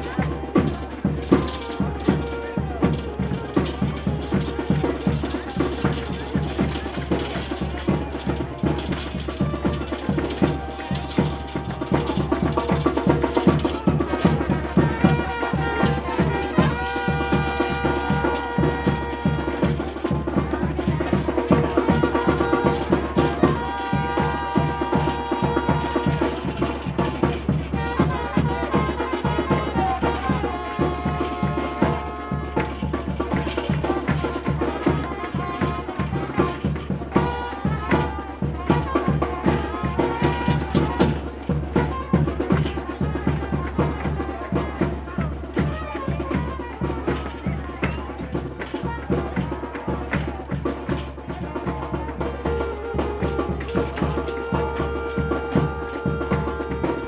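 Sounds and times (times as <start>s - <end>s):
fast steady drumbeat: 0.0s - 57.0s.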